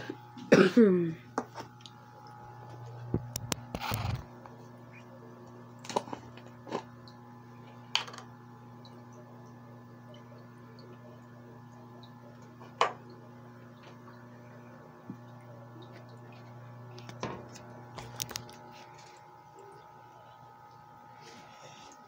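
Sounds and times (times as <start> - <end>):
aquarium equipment humming: 0.0 - 22.0.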